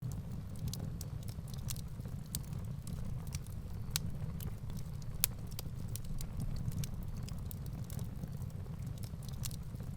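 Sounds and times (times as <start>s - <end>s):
firewood crackling and popping: 0.0s - 9.9s
low rumble of flames: 0.0s - 9.9s.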